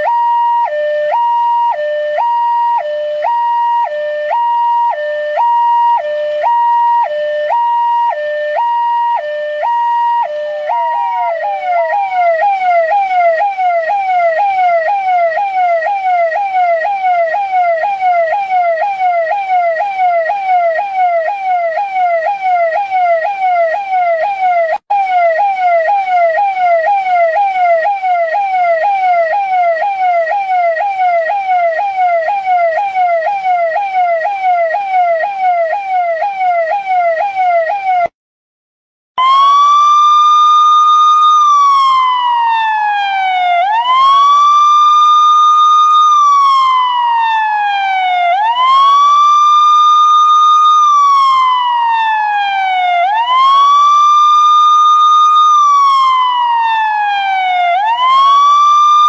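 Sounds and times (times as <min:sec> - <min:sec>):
electronic siren: 0:00.0 - 0:38.1, 0:39.2 - 0:59.0.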